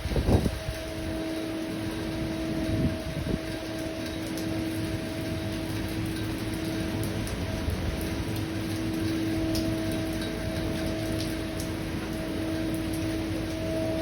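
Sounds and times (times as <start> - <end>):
low hum: 0.0 - 14.0
rain hissing: 0.0 - 14.0.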